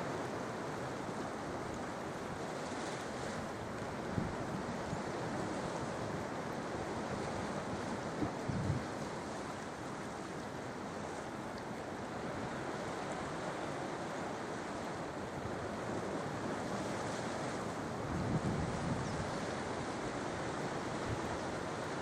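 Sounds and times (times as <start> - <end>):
sea surf washing onto shore: 0.0 - 22.0.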